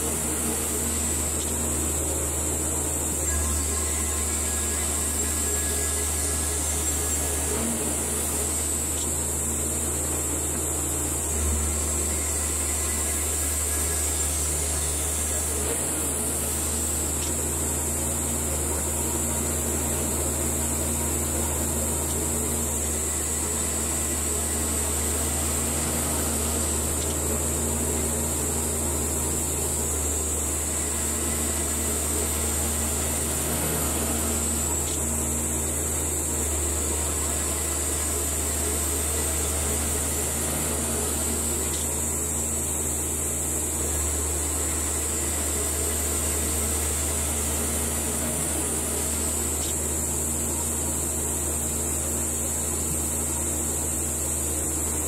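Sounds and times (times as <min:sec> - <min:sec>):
bandsaw mill sawing log: 0:00.0 - 0:55.0.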